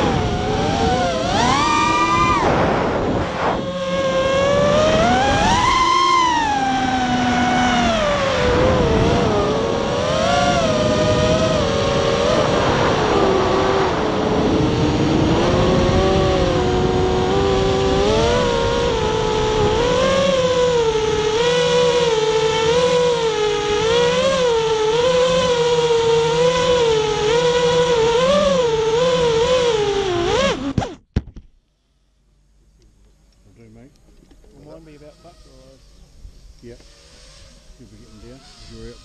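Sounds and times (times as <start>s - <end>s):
quadcopter motors whining: 0.0s - 31.0s, 32.8s - 39.0s.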